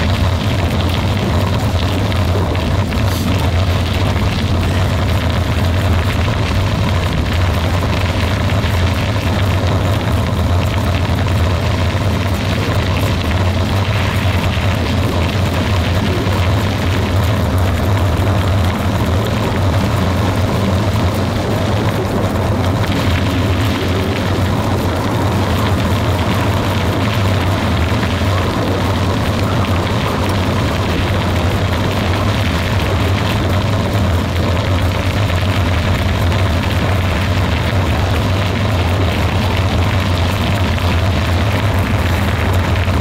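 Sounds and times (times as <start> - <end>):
gravel road noise: 0.0 - 43.0
vehicle engine drone: 0.0 - 43.0.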